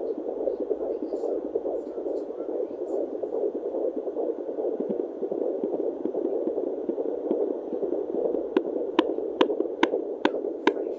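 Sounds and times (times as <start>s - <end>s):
fetal heartbeat: 0.0s - 10.9s.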